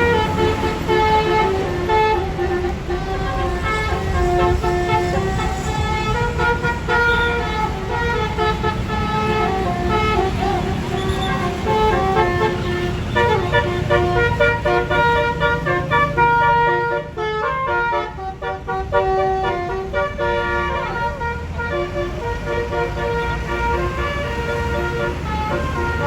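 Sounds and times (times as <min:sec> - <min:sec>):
bus engine rumbling: 0:00.0 - 0:26.0
multi-note air horn melody: 0:00.0 - 0:26.0.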